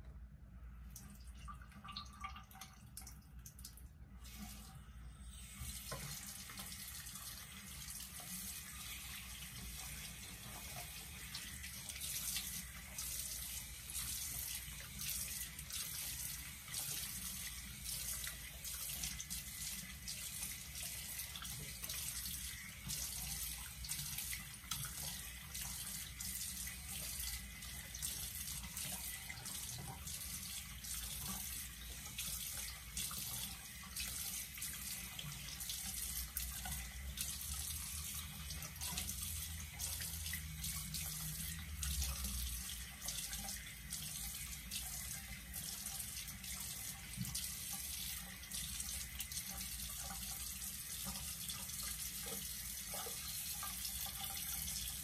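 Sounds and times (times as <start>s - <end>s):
faucet running into sink: 0.9s - 55.0s.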